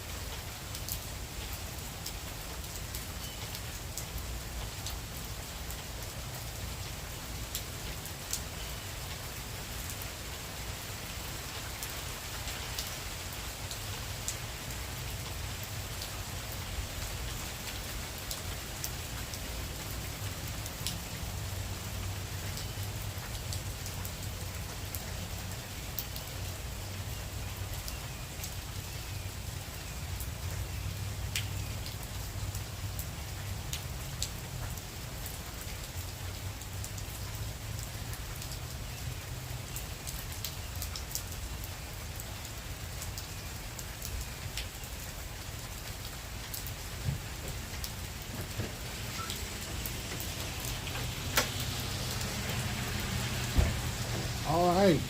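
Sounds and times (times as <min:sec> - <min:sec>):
heavy rain falling: 0:00.0 - 0:55.0
raindrops ticking on surfaces: 0:00.0 - 0:55.0.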